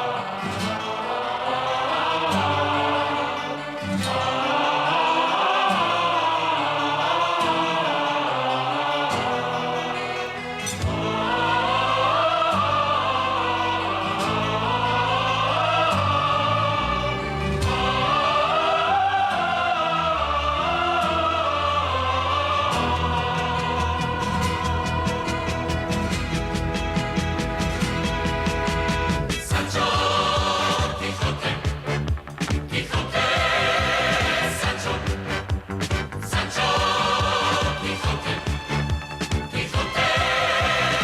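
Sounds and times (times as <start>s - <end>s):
choir singing with orchestra: 0.0s - 41.0s.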